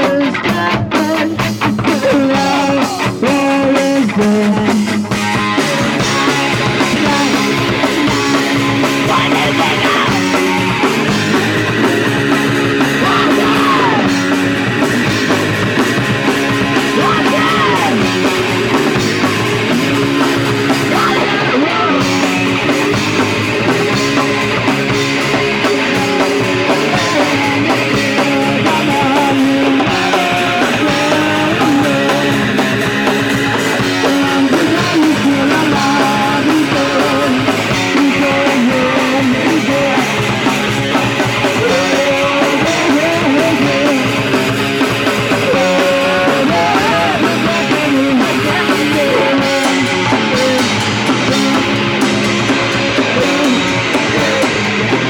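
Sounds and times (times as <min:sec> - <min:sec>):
live punk rock band: 0:00.0 - 0:55.0.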